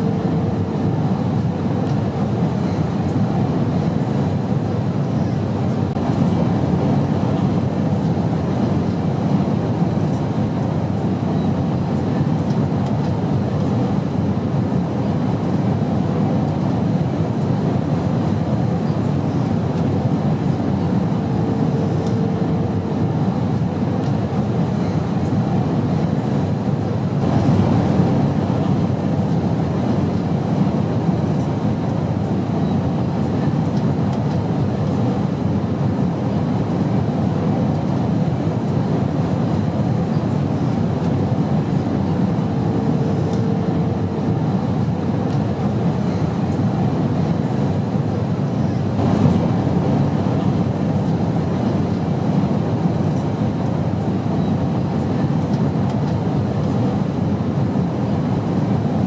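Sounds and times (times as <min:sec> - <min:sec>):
airplane drone: 0:00.0 - 0:59.0.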